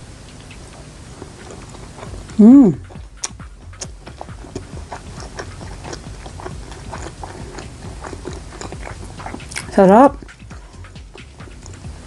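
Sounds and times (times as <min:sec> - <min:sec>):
person chewing food: 0:00.4 - 0:12.0.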